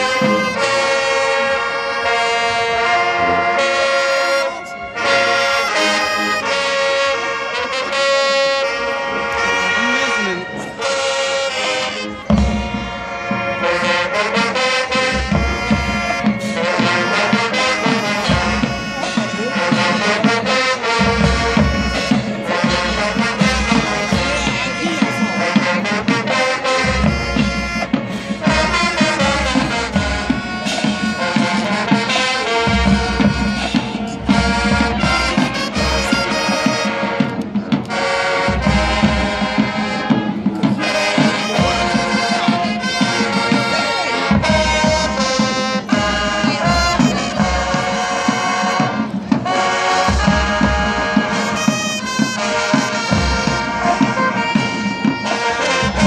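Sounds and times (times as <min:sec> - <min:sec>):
brass horns: 0:00.0 - 0:56.0
drum beats: 0:00.0 - 0:56.0.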